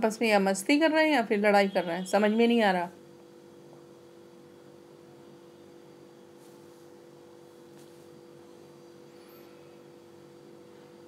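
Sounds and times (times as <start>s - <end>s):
faint hum of held tones: 0.0s - 11.0s.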